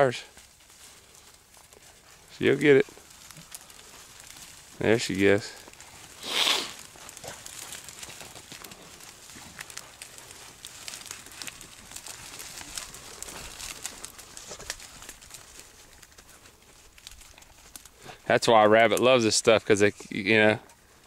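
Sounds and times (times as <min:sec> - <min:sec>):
twigs snapping: 0:00.0 - 0:18.2
dry brush rustling: 0:00.0 - 0:21.0.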